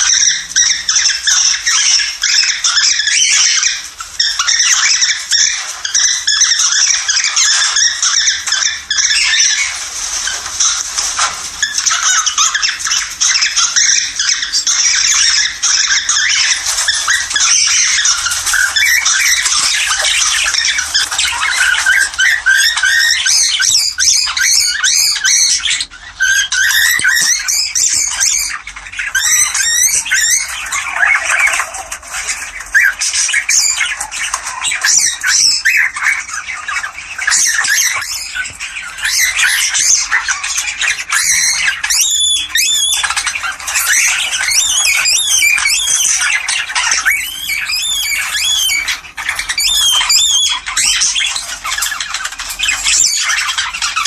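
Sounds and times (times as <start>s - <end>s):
cockatiels chirping and squawking: 0.0s - 54.0s.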